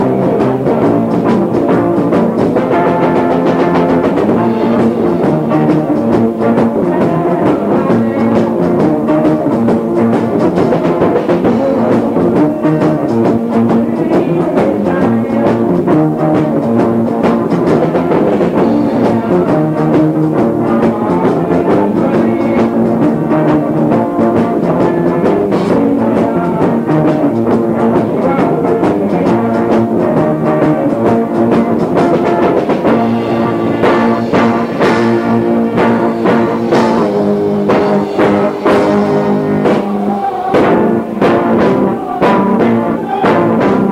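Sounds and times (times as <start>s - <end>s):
faint vocals: 0.0s - 43.9s
muffled live rock band: 0.0s - 43.9s.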